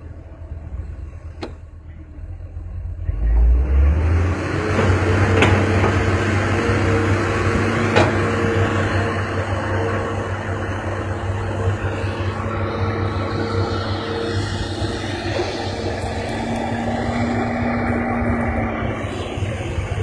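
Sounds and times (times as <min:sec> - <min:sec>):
heavy diesel machinery hum: 0:00.0 - 0:20.0
steady machine whine: 0:04.0 - 0:20.0.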